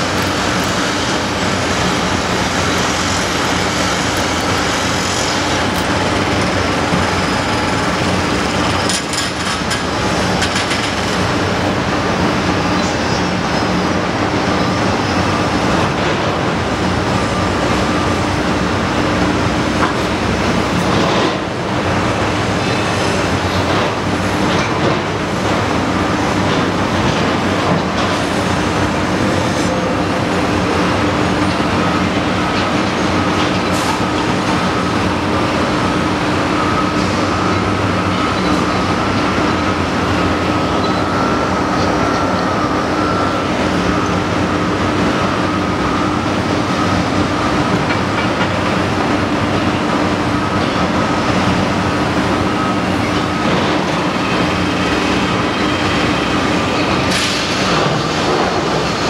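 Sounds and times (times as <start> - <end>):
excavator engine and hydraulic drone: 0.0 - 59.0.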